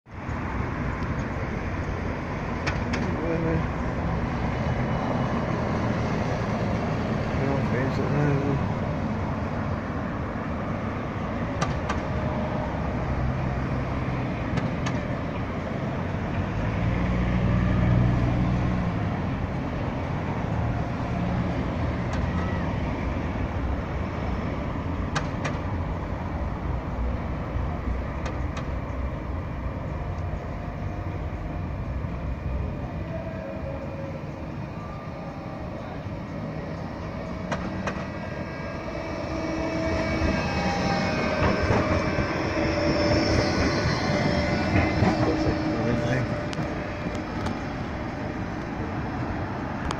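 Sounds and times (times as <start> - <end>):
street traffic: 0.0 - 49.9
tram running on rails: 0.1 - 49.9
vehicle engine hum: 0.1 - 49.9.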